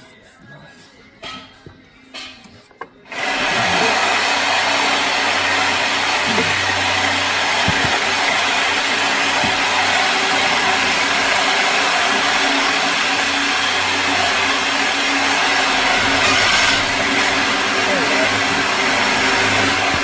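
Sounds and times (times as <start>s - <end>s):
machine whirring: 3.0s - 20.0s.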